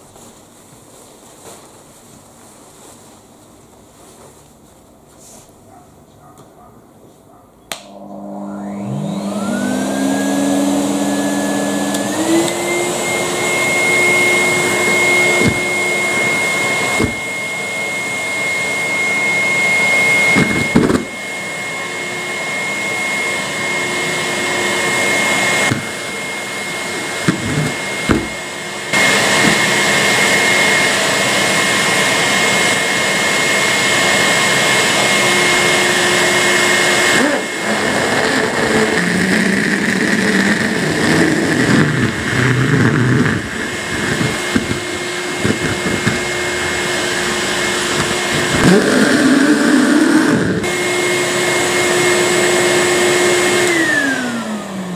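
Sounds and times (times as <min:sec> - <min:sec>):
vacuum cleaner motor whine: 0:07.7 - 0:54.9.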